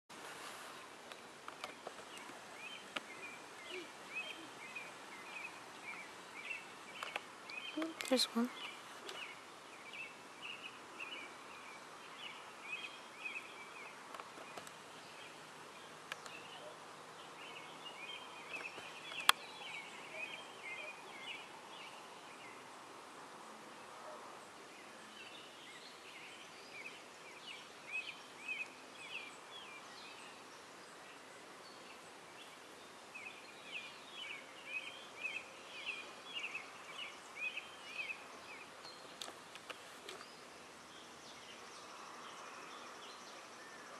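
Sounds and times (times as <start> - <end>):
faint steady hiss: 0.1 - 43.9
bird chirping: 1.0 - 22.7, 24.0 - 43.9.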